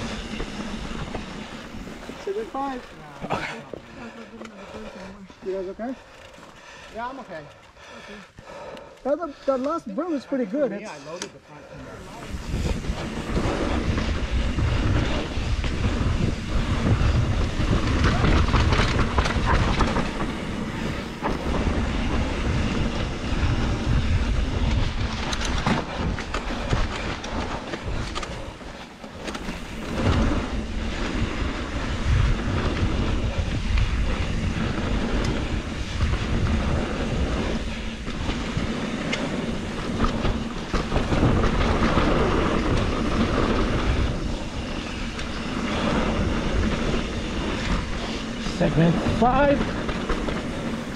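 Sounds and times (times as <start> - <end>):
bike chain and frame clattering: 0.0 - 7.8, 12.0 - 50.9
bike tyre roar on dirt: 0.0 - 50.9.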